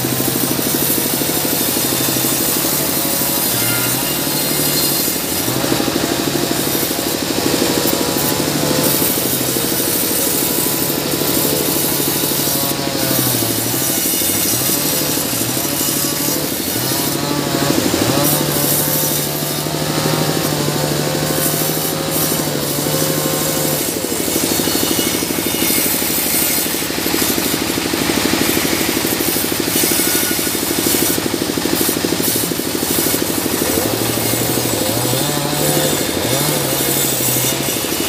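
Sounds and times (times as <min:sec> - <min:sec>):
band saw cutting log: 0:00.0 - 0:38.0.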